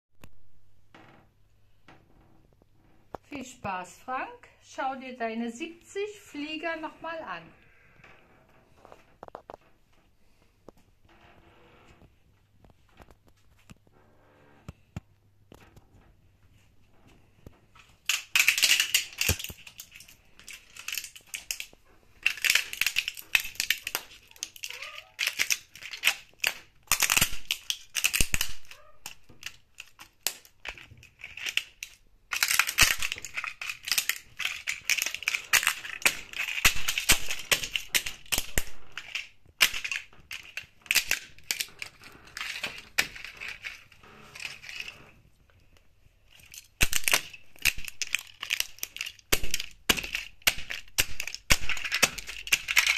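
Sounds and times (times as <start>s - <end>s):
plastic cracking underfoot: 7.6s - 52.9s.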